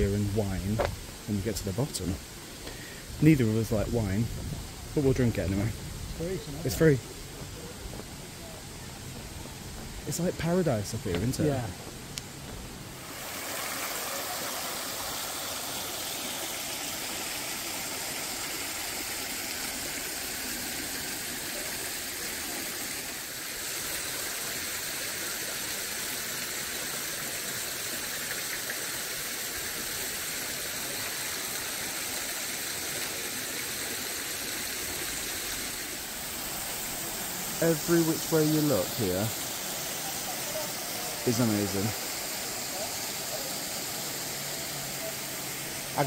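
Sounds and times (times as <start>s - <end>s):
running water: 0.0s - 46.0s.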